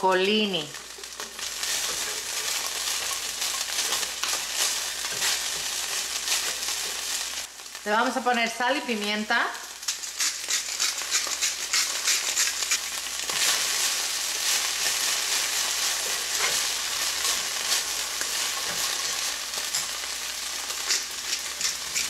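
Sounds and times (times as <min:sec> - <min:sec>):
vegetables sizzling in oil: 0:00.0 - 0:22.0
spatula stirring in a pan: 0:00.7 - 0:07.8, 0:09.7 - 0:22.0.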